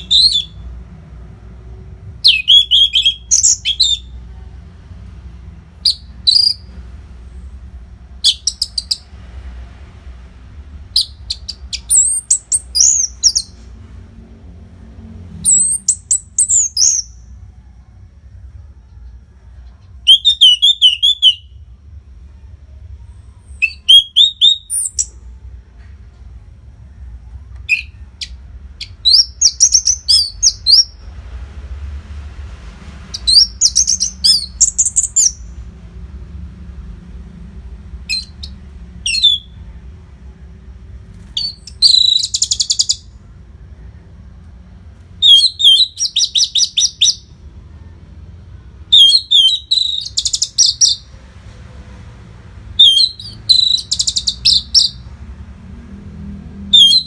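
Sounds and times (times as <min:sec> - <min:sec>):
faint low hum: 0:00.0 - 0:56.8.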